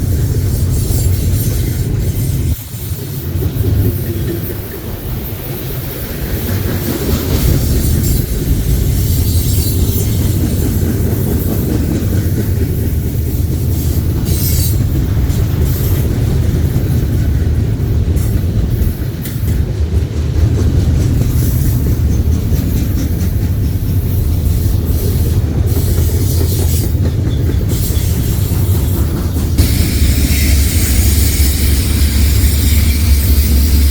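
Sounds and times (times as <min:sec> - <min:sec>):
freight train wheels clattering: 0:00.0 - 0:33.9.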